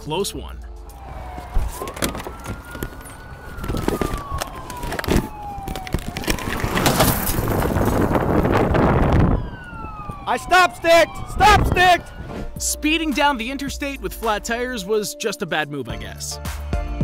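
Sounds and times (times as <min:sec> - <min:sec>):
police siren wailing: 0:00.8 - 0:14.8.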